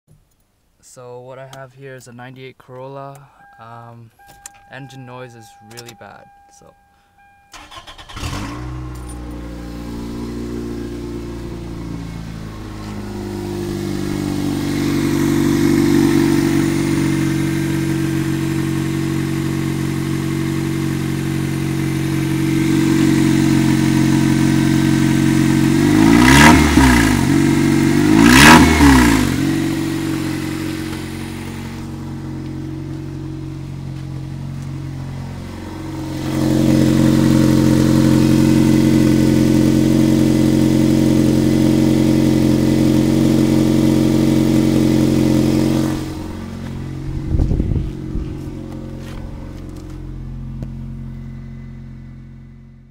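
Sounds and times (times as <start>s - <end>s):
car engine running and revving: 7.6s - 52.9s.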